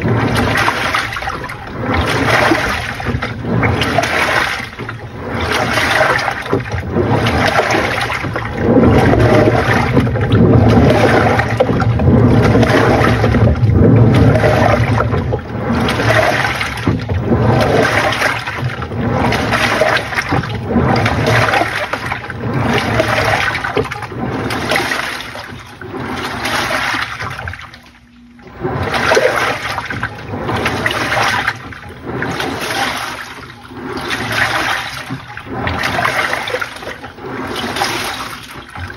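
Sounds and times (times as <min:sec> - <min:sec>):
washing machine churning: 0:00.0 - 0:38.9.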